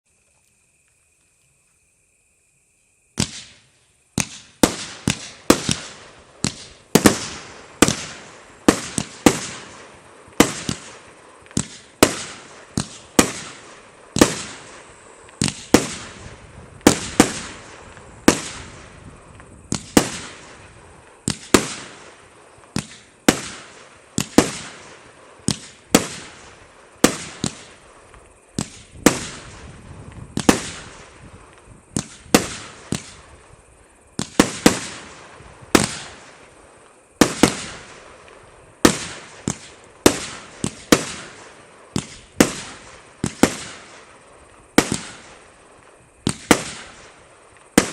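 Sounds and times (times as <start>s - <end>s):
fireworks bangs echoing: 3.2s - 33.6s, 34.2s - 47.9s.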